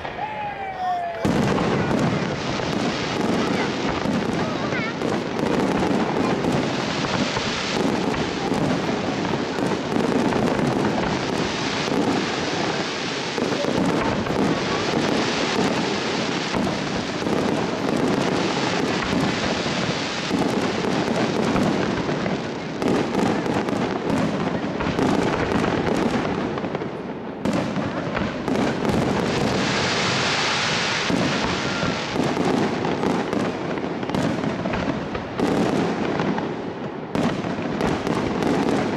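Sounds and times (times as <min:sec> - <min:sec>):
fireworks bursting: 0:00.0 - 0:38.9
hissing crackle of fireworks: 0:00.0 - 0:38.9.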